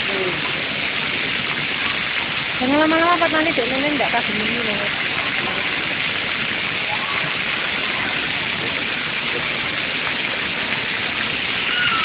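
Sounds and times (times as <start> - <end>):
water jets spraying onto ground: 0.0 - 12.0.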